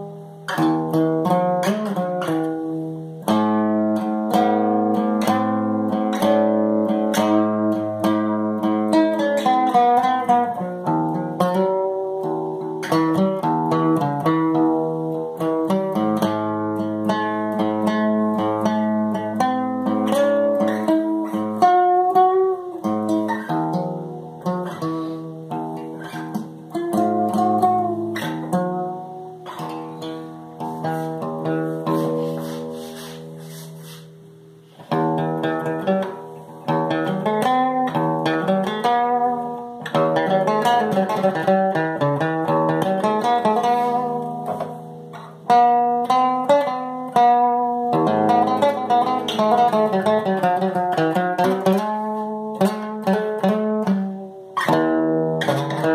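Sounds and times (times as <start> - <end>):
guitar picking notes and chords: 0.0 - 55.9.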